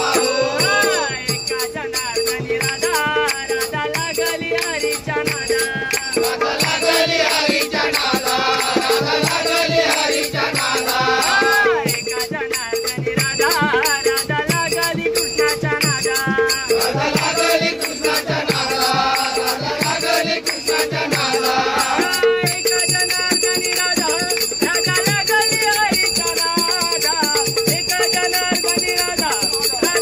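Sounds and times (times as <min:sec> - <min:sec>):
rattling percussion beat: 0:00.0 - 0:30.0.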